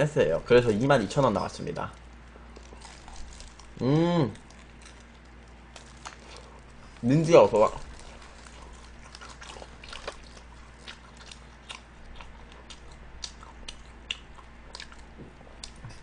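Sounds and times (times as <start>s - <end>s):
chewing crispy fried chicken: 0.6s - 16.0s.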